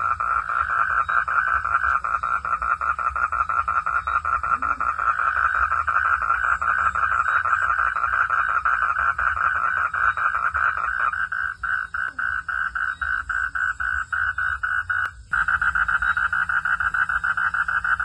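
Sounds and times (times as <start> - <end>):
frogs calling in chorus: 0.0 - 18.0.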